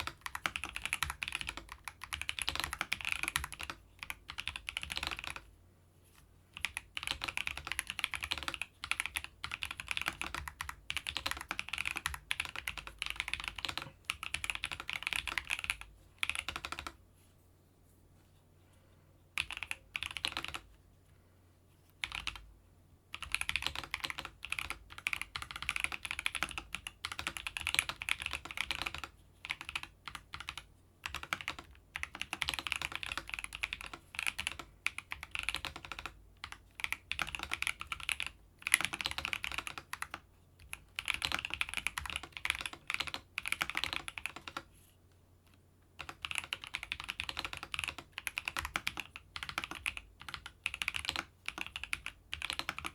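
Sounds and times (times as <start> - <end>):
mechanical keyboard typing: 0.0 - 5.5, 6.6 - 17.0, 19.4 - 20.7, 22.0 - 22.4, 23.1 - 44.7, 46.0 - 52.9.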